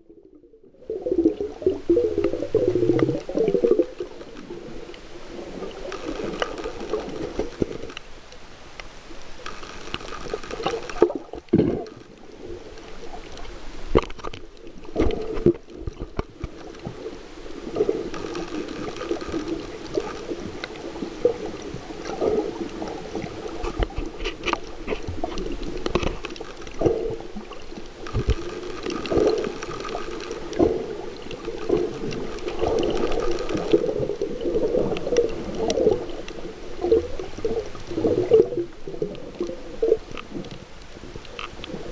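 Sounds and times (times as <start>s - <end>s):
underwater water sloshing and gurgling: 0.0s - 41.9s.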